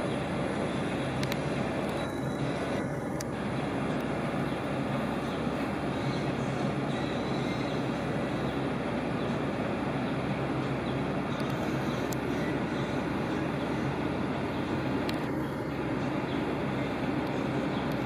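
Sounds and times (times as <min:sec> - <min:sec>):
muffled jet engines idling: 0:00.0 - 0:18.0.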